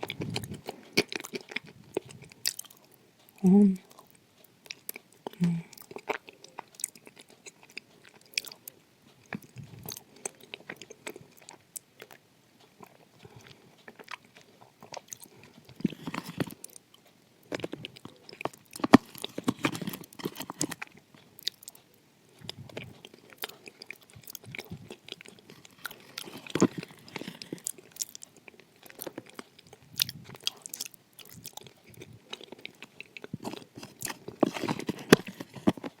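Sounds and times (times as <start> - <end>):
chewing and biting clay: 0.0 - 3.3, 3.9 - 36.0.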